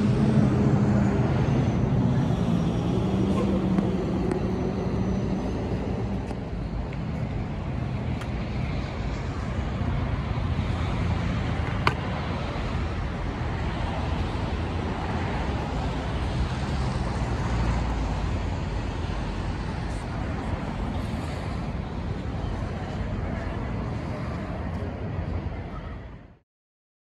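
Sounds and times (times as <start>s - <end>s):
street traffic noise: 0.0s - 26.4s.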